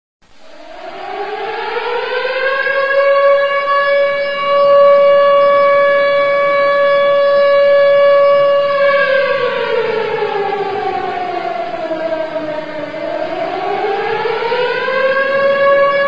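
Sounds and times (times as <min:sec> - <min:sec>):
civil defence siren wailing: 0:00.2 - 0:16.0.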